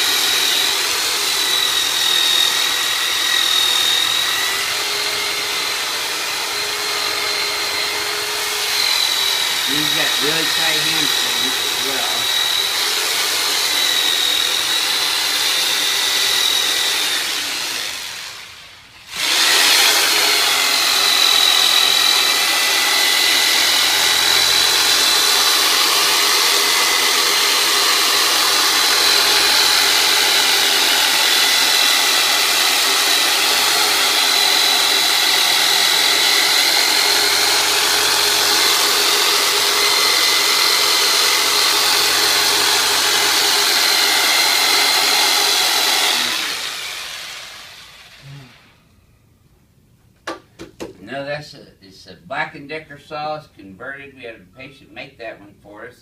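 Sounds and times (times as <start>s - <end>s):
electric motor high whine: 0.0s - 48.9s.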